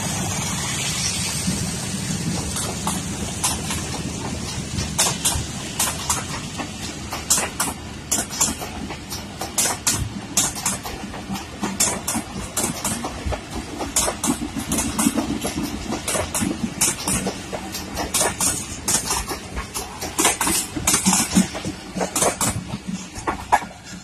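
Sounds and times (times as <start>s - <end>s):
train wheels rumbling: 0.0s - 24.0s
wheels clacking over rail joints: 0.0s - 24.0s.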